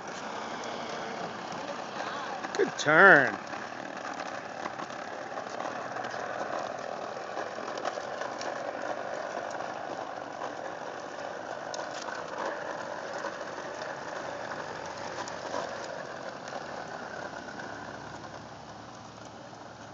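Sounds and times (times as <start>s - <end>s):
lawn mower whirring: 0.0s - 19.9s
mower wheel clicks: 0.0s - 19.9s.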